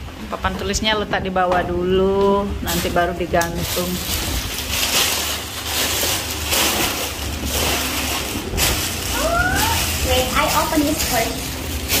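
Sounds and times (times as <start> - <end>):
packaging crinkling and rustling: 2.2 - 12.0.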